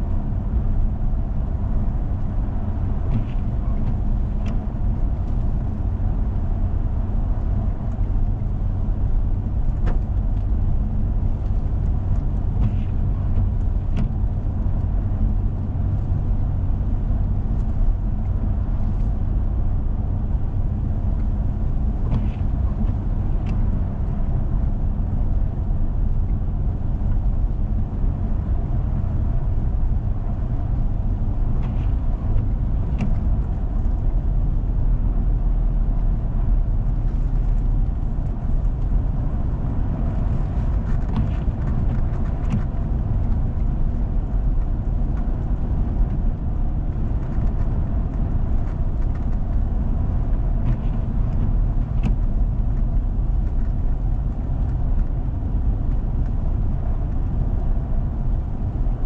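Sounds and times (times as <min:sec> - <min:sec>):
vehicle driving on snowy road: 0:00.0 - 0:59.0.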